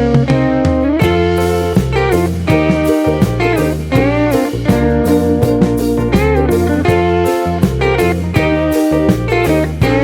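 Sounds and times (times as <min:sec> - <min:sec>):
guitar tune: 0:00.0 - 0:10.0.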